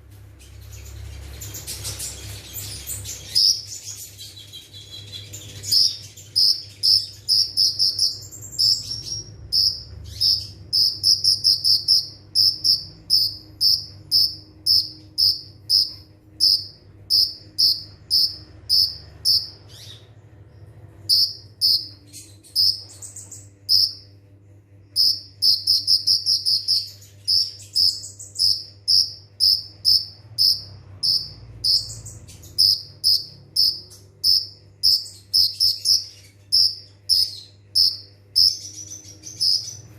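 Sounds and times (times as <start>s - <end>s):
sunbird singing trilled chirps: 0.4s - 24.1s, 24.9s - 39.9s.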